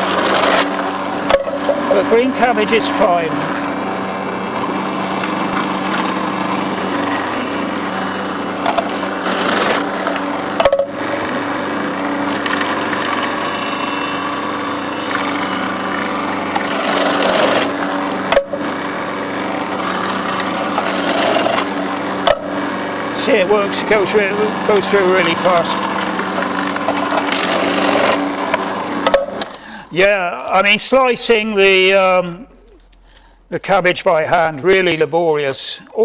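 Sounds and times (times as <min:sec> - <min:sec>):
slicing disc shredding cabbage: 0:00.0 - 0:29.5
food processor motor humming: 0:00.0 - 0:30.6.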